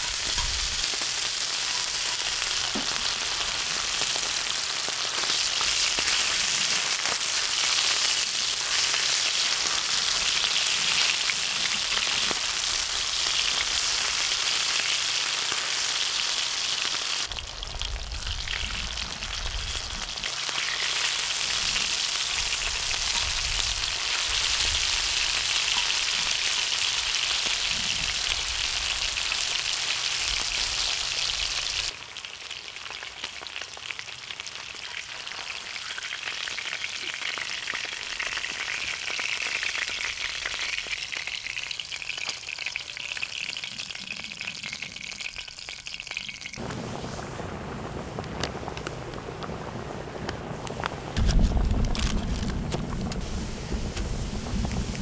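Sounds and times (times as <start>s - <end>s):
meat sizzling in a pan: 0.0s - 47.2s.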